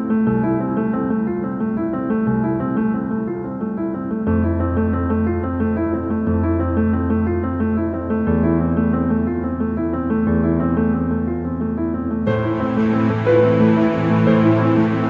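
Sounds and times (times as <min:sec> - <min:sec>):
piano background music: 0:00.0 - 0:15.0.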